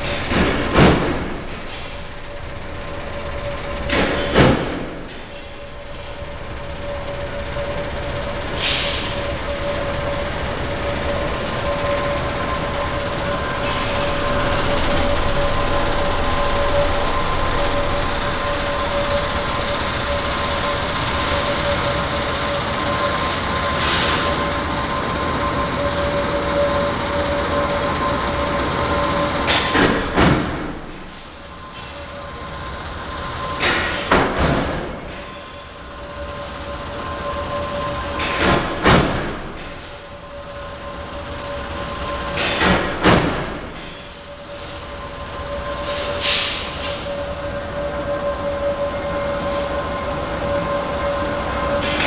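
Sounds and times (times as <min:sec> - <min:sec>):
sorting machine droning: 0:00.0 - 0:52.0.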